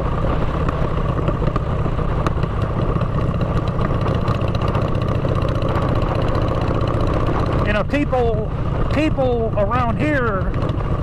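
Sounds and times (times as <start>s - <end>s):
motorcycle exhaust rumble: 0.0s - 11.0s.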